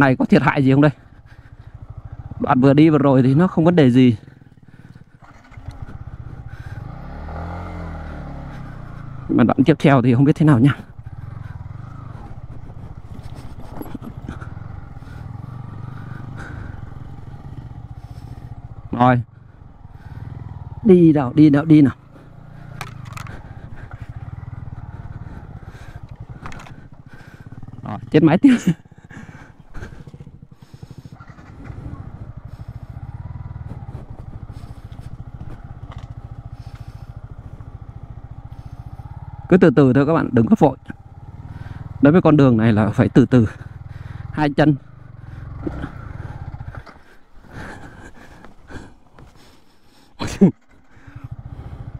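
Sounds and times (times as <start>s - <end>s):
motorcycle engine running steadily: 0.0s - 51.9s.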